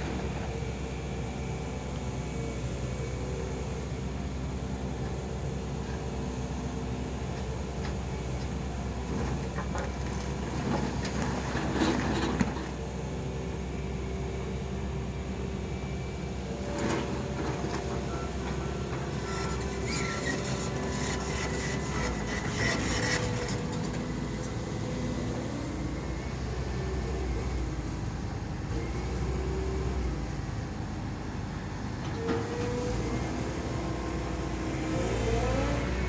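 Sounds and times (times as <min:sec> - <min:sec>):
excavator diesel engine rumbling: 0:00.0 - 0:36.0.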